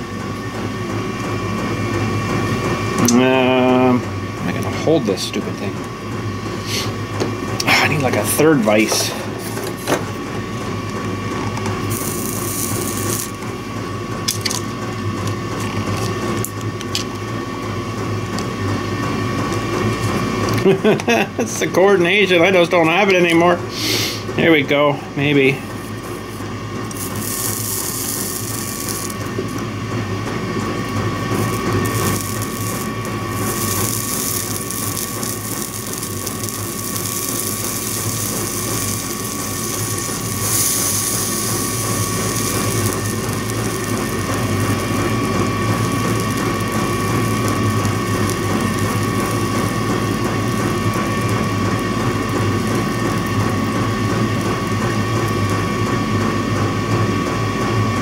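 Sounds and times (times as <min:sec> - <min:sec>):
small machine whining and whirring: 0:00.0 - 0:58.0.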